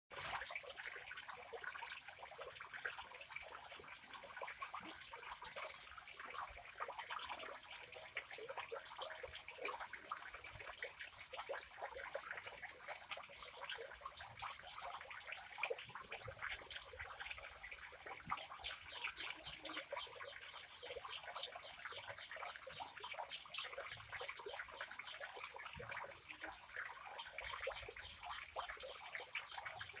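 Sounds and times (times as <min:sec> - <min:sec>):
water trickling into a pond: 0:00.1 - 0:30.0.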